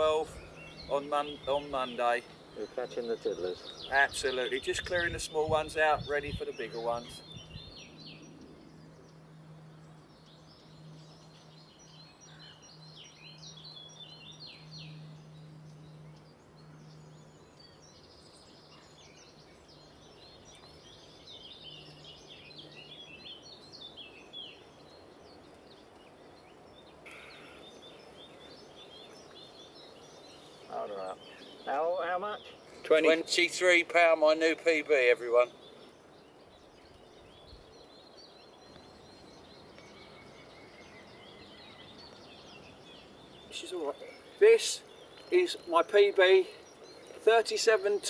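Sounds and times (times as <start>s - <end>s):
background hiss: 0.0s - 48.0s
small birds chirping: 0.0s - 48.0s.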